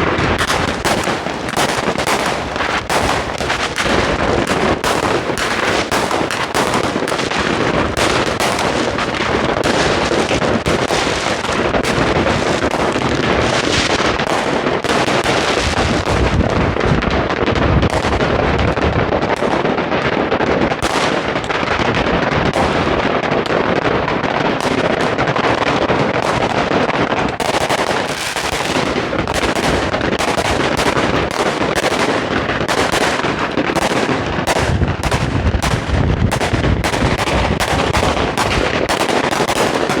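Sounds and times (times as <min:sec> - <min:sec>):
fireworks and firecrackers banging: 0:00.0 - 0:40.0.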